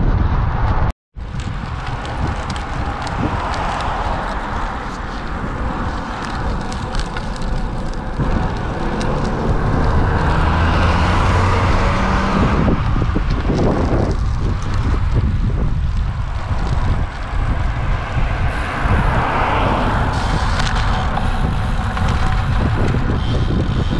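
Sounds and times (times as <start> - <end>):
bike tyres on asphalt: 0.0 - 23.9
wind on microphone: 0.0 - 23.9
car passing: 1.3 - 23.9.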